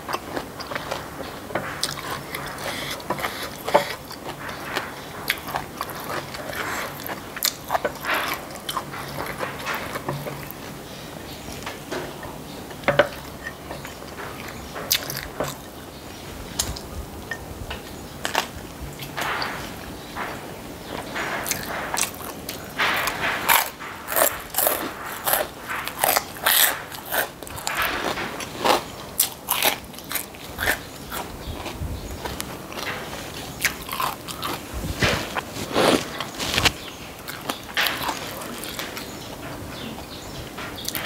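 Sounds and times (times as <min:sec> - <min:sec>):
chewing and crunching: 0:00.0 - 0:11.8, 0:13.1 - 0:15.7, 0:20.2 - 0:41.0.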